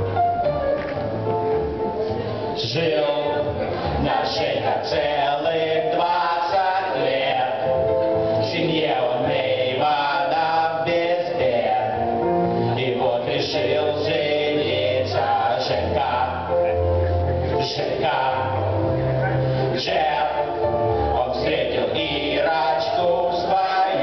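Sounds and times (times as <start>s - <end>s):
group singing: 2.6s - 16.8s, 17.4s - 24.0s.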